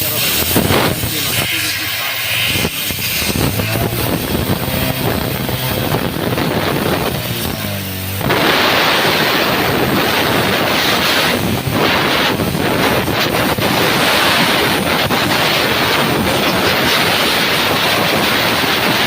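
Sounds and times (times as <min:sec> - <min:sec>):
high-pressure spray hissing: 0:00.0 - 0:19.0
motorcycle engine running: 0:00.0 - 0:19.0.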